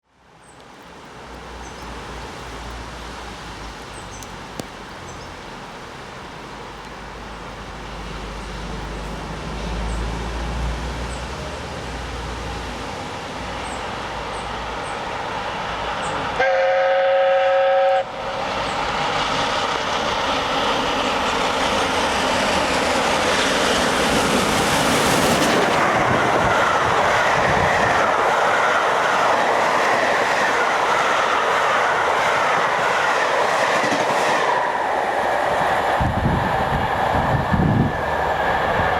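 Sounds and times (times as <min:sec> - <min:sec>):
steam locomotive passing: 0:05.6 - 0:38.9.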